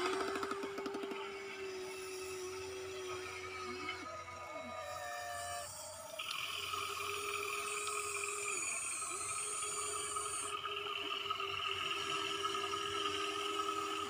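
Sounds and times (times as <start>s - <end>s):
electric motors and gears whining: 0.0s - 14.0s.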